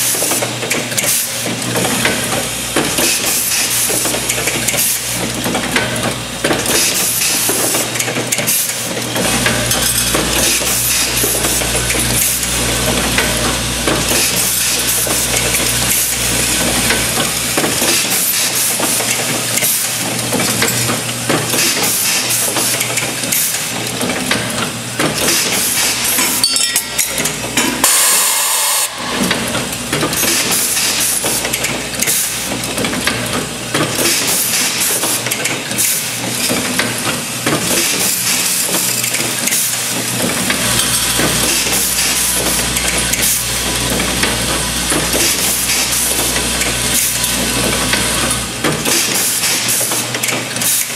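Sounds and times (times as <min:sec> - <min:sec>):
machine clicks and knocks: 0:00.0 - 0:27.8, 0:29.0 - 0:50.9.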